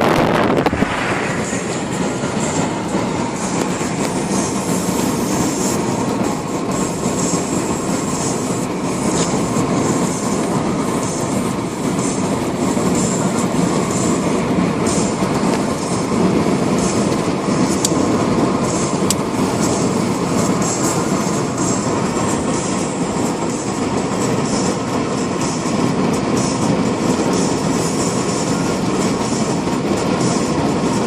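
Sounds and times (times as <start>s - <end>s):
car road and engine noise: 0.0s - 31.0s.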